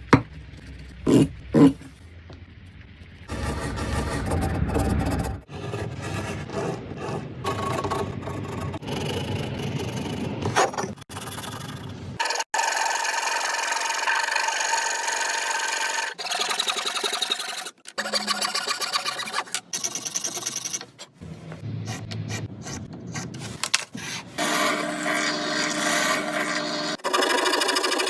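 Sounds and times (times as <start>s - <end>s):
tools rasping and scraping wood: 3.3s - 21.2s, 21.9s - 28.0s.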